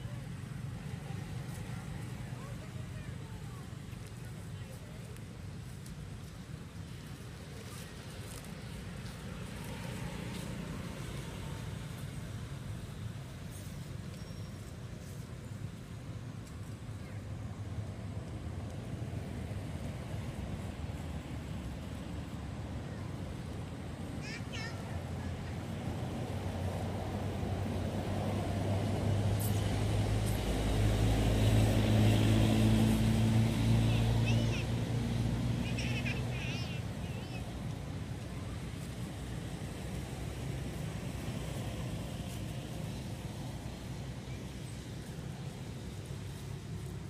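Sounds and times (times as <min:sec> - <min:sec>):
low outdoor rumble: 0:00.0 - 0:47.0
vehicle engine hum approaching: 0:00.0 - 0:47.0.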